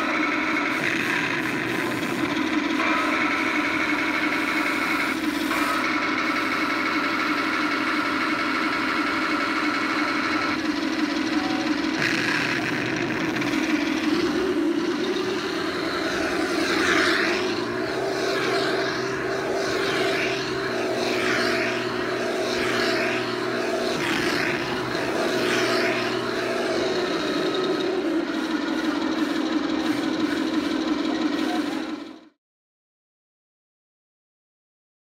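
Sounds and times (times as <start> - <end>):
model tank mechanical drone: 0.0 - 32.4.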